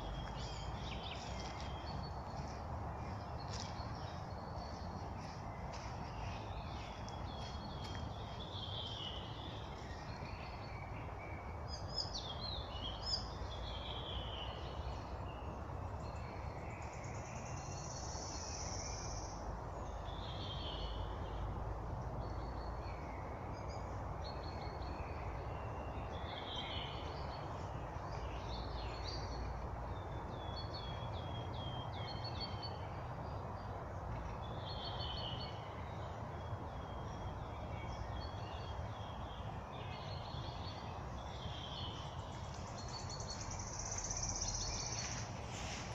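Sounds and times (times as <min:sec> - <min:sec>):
songbirds chirping and trilling: 0:00.0 - 0:45.9.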